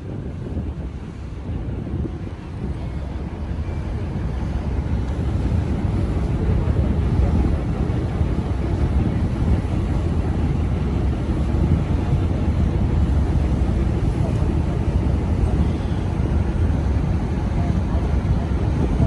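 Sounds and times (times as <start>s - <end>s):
boat running noise: 0.0s - 19.0s
wind buffeting microphone: 0.0s - 19.0s.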